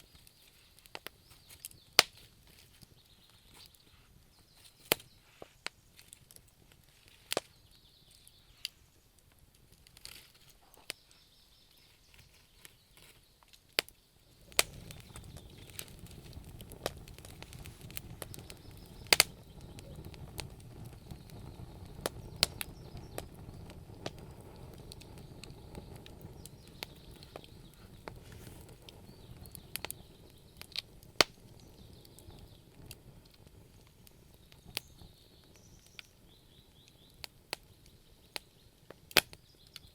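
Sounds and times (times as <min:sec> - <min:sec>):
sharp pops of fire: 0:00.0 - 0:03.8, 0:04.4 - 0:39.9
low rushing of flames: 0:00.0 - 0:39.9
wood fire crackling: 0:00.0 - 0:39.9.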